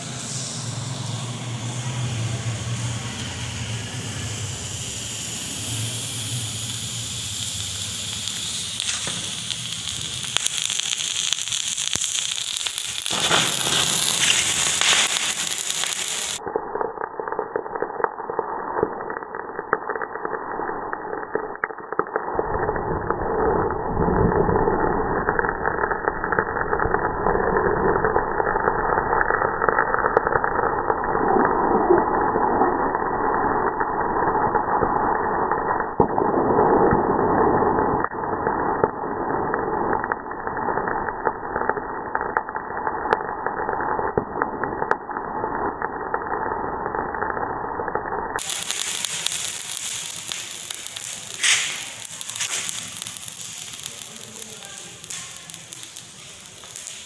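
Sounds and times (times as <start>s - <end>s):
burning pile crackling: 0.0s - 57.0s
chemical reaction hissing: 0.0s - 57.0s
hissing flare of fire: 0.0s - 57.0s.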